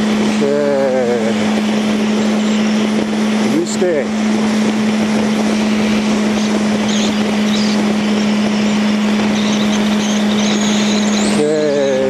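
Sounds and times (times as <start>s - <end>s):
motorcycle engine running: 0.0s - 12.0s
wind rush: 0.0s - 12.0s.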